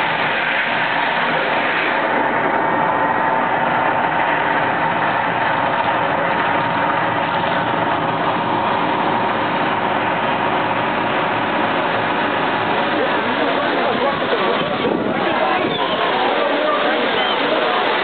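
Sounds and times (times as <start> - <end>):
water jets and fire rushing: 0.0 - 18.0.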